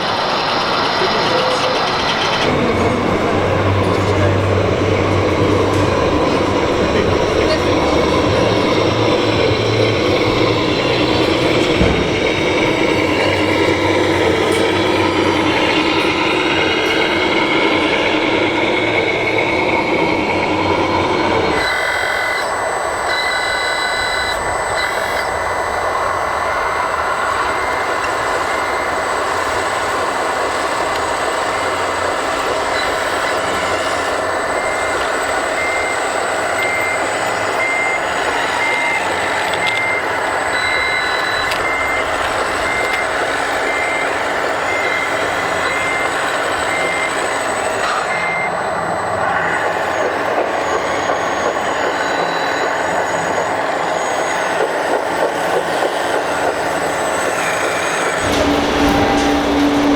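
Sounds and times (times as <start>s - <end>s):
mechanical running noise: 0.0s - 59.9s
reversing beeper: 0.1s - 59.9s.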